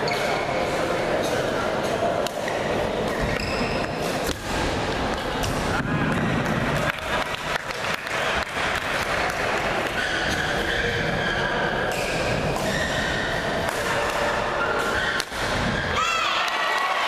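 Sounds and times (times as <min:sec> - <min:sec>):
chatter of spectators: 0:00.0 - 0:17.0.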